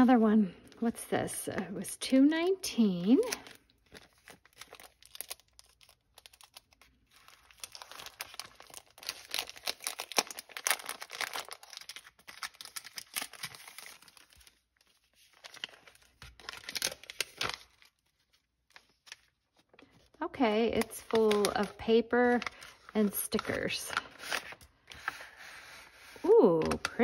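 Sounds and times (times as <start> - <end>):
package wrapping crinkling and tearing: 2.9 - 25.5.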